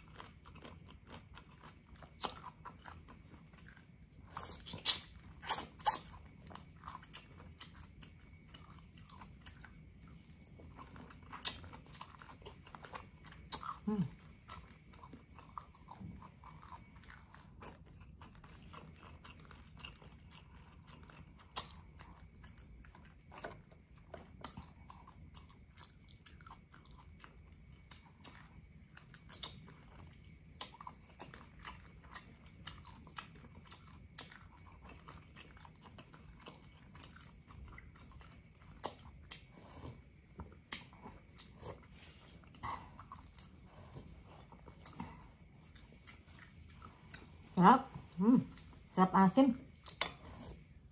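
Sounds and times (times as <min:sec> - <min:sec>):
person chewing and biting meat: 0:00.0 - 0:47.3.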